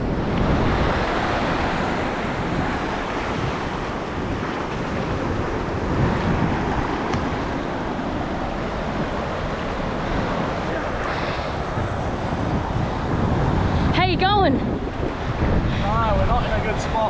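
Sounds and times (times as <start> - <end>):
small waves washing on shore: 0.0 - 17.0
wind buffeting microphone: 0.0 - 17.0.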